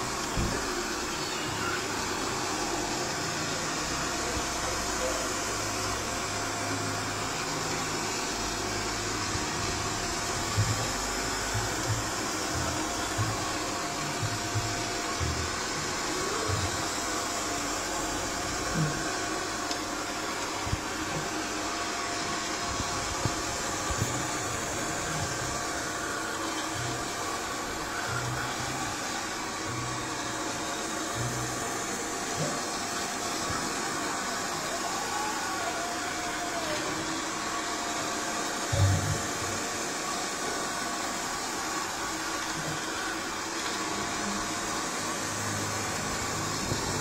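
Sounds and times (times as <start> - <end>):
robot vacuum cleaner whirring: 0.0 - 47.0.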